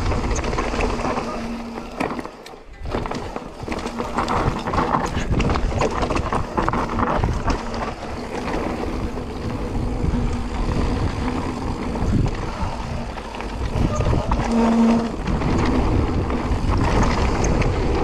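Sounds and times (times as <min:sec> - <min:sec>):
bike rattling and knocking: 0:00.0 - 0:18.0
bike tyres crunching over gravel: 0:00.0 - 0:18.0.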